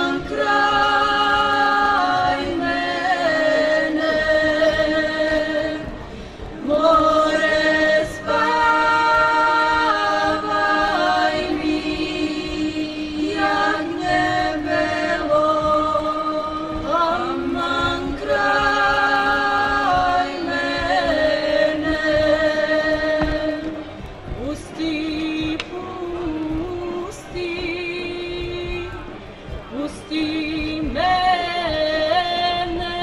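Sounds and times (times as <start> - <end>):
women singing a cappella: 0.0 - 33.0.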